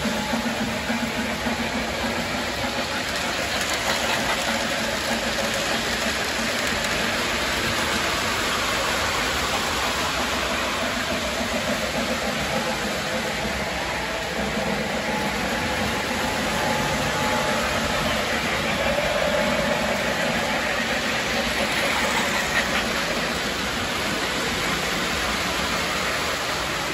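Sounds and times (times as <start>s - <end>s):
model train whirring: 0.0s - 26.9s.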